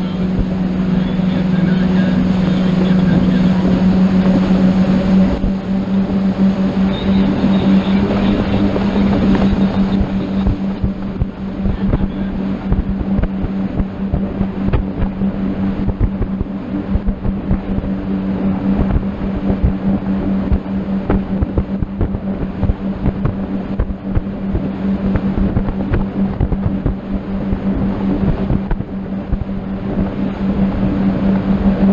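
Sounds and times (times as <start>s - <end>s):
motorboat engine running: 0.0s - 31.9s
wind buffeting microphone: 0.0s - 31.9s.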